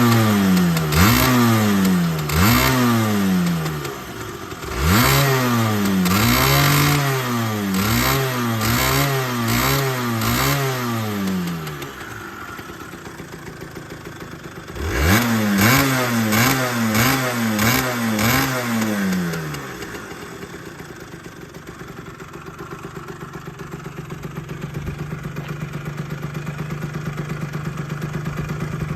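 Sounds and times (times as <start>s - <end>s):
engine idling: 0.0s - 28.9s
two-stroke engine throttle blips: 0.0s - 28.9s.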